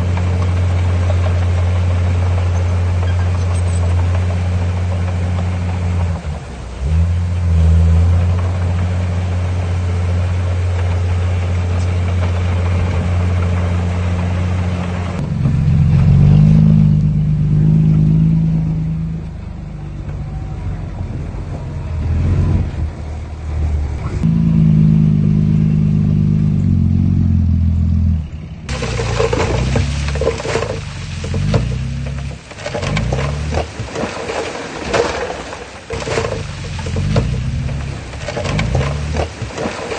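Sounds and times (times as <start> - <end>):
heavy diesel engine running: 0.0 - 34.6, 35.4 - 39.9.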